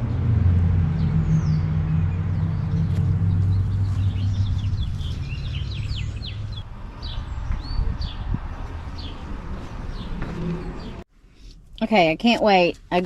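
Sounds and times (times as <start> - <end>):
low rumble: 0.0 - 11.8
birds chirping: 0.1 - 11.1.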